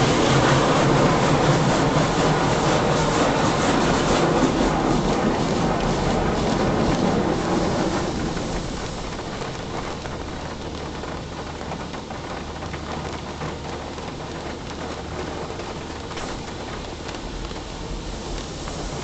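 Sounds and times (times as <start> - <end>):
water spray on car: 0.0 - 19.0.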